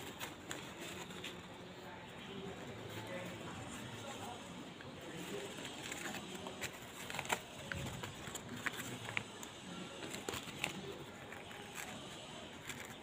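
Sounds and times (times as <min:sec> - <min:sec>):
newspaper rustling and crinkling: 0:00.0 - 0:13.0.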